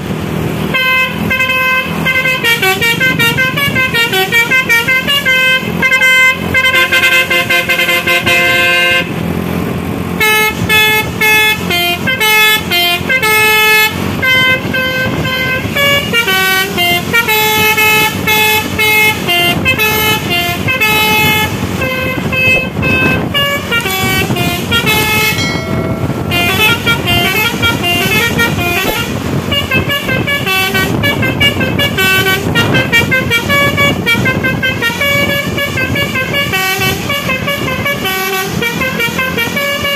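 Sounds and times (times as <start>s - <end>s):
vehicle rumble: 0.0s - 39.9s
musical air horn melody: 0.7s - 9.2s, 10.2s - 39.9s.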